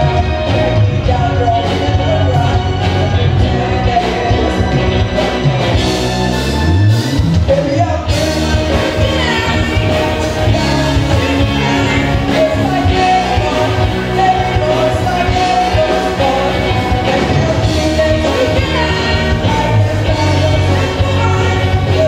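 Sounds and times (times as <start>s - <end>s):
woman singing lead: 0.0s - 6.2s, 7.4s - 22.0s
live rock band playing: 0.0s - 22.0s.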